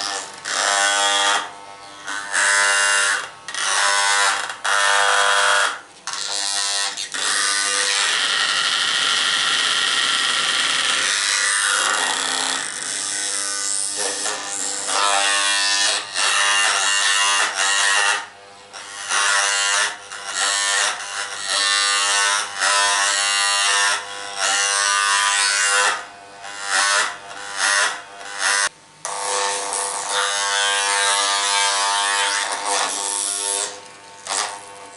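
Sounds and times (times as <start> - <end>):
small electric device buzzing: 0.0 - 34.9.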